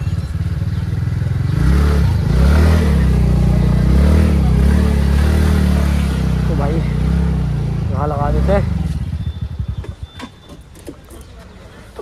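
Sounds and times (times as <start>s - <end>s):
scooter engine running: 0.0s - 11.6s.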